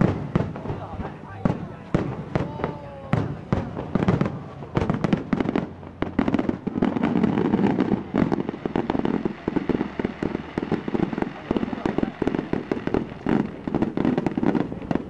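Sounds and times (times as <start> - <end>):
firework shells bursting: 0.0 - 15.0
rapid firework crackling: 0.0 - 15.0.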